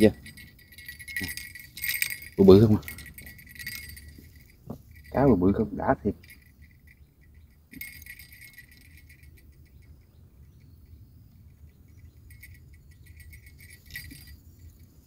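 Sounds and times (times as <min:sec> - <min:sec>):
fishing tackle clicking and rattling: 0:00.0 - 0:10.8, 0:11.4 - 0:15.0.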